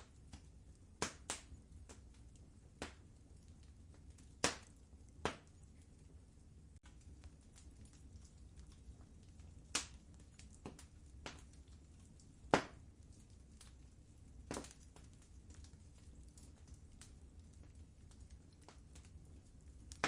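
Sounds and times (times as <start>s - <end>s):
sharp fire pops: 0.0s - 5.8s, 6.8s - 20.0s
wood fire crackling: 0.0s - 20.0s.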